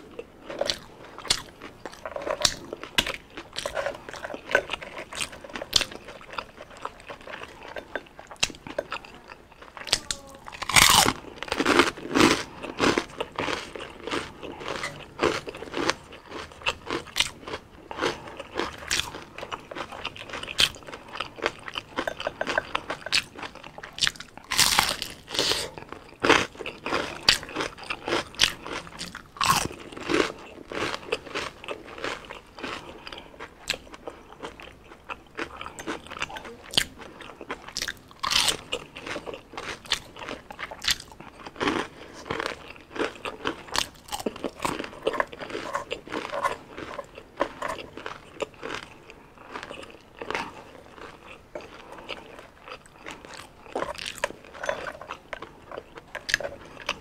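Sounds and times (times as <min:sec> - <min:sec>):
person chewing crispy food: 0:00.0 - 0:57.0.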